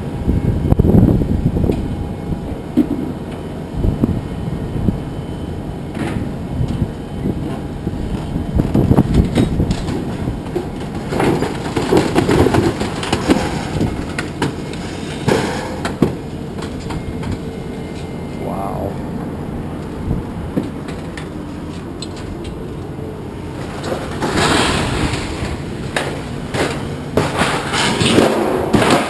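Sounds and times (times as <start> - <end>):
low mechanical rumble: 0.0 - 29.0.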